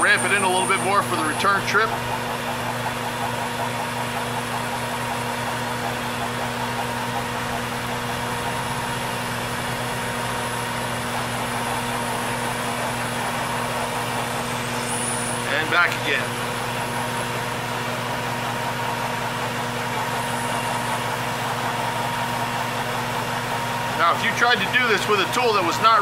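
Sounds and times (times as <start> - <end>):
metal lathe cutting steel: 0.0 - 26.0.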